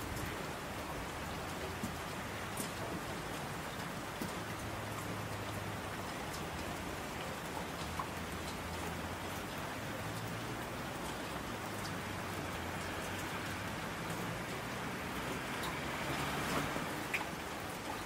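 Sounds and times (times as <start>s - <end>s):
sharp raindrop ticks: 0.0s - 18.0s
steady rain hissing: 0.0s - 18.0s.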